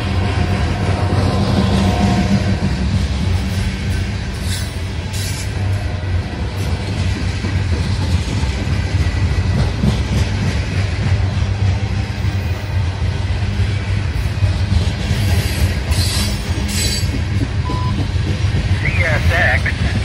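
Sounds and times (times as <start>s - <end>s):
steel wheels rumbling on rails: 0.0s - 20.0s.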